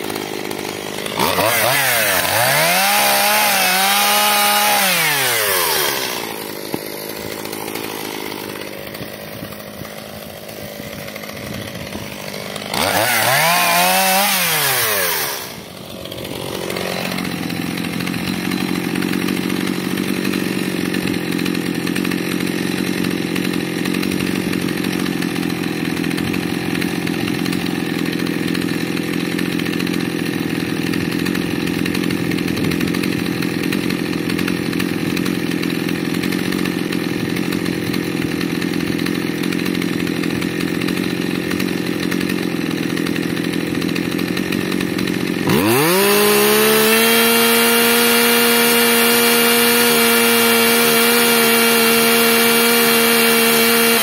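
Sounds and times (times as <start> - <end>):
chainsaw idling and revving: 0.0 - 54.0.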